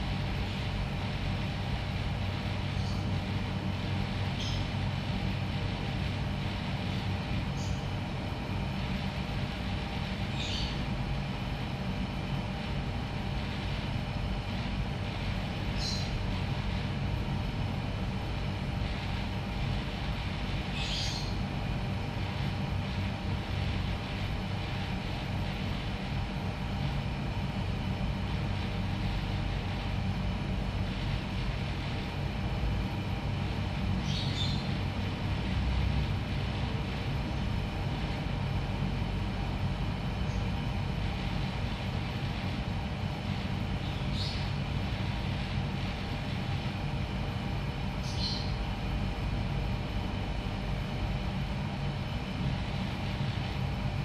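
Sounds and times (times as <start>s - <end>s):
mechanical hum: 0.0s - 54.0s.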